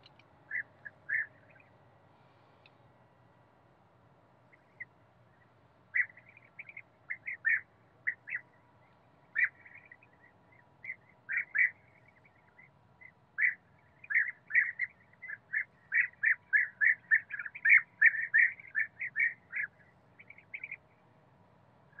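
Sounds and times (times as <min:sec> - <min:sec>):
birds calling short notes: 0:00.0 - 0:02.8, 0:04.5 - 0:20.9.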